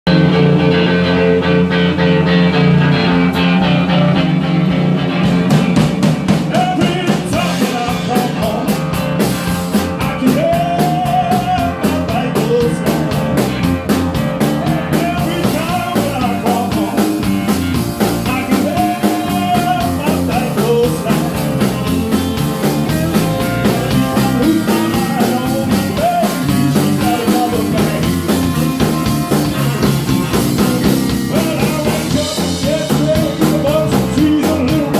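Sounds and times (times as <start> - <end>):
drum kit beat: 0.1 - 34.9
electric guitar: 0.1 - 34.9.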